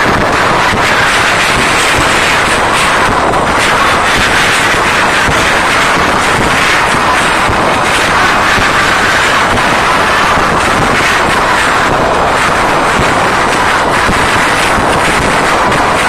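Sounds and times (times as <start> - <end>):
concert crowd screaming distorted: 0.0 - 16.0.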